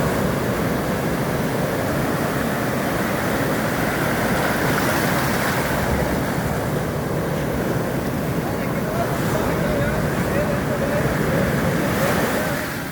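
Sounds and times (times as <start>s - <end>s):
ocean waves washing: 0.0s - 12.9s.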